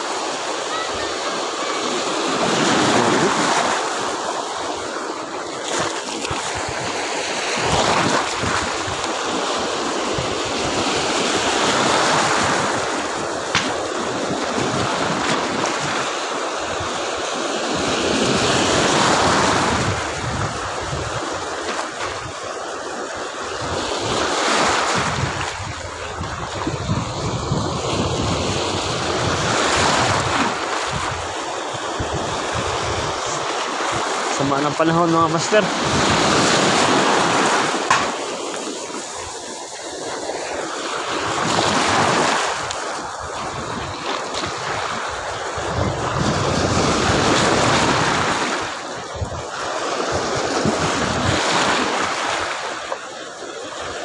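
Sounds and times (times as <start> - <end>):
small surf breaking on a beach: 0.0 - 54.0.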